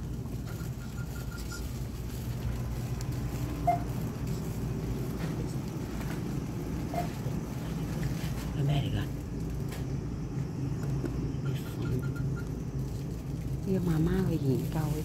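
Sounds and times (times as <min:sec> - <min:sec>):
shopping cart wheels rumbling: 0:00.0 - 0:09.9, 0:11.4 - 0:15.0.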